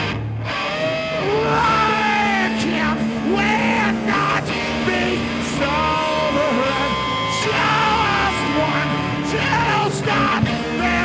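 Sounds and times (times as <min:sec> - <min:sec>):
drums: 0:00.0 - 0:11.0
electric guitar: 0:00.0 - 0:11.0
person singing: 0:01.1 - 0:11.0.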